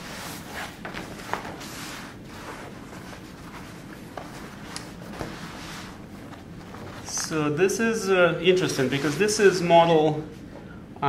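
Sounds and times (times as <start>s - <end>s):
denim fabric rustling and rubbing: 0.0s - 9.9s.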